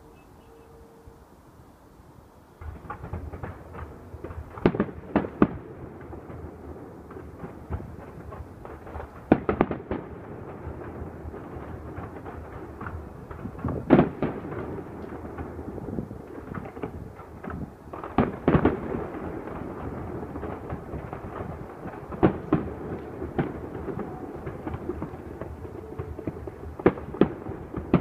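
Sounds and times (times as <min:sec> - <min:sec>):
firework crackling: 0:02.5 - 0:28.0
firework bangs: 0:02.6 - 0:28.0.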